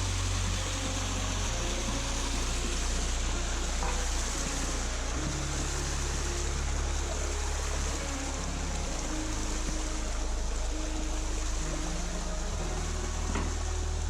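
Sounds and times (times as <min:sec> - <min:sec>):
music with low bass notes: 0:00.0 - 0:14.0
steady rushing hiss: 0:00.0 - 0:14.0.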